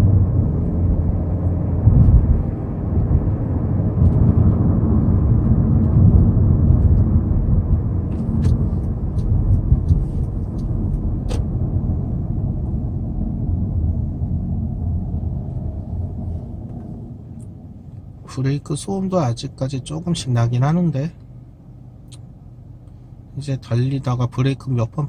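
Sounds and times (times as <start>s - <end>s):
car engine hum in cabin: 0.0s - 25.0s
road noise: 0.0s - 25.0s.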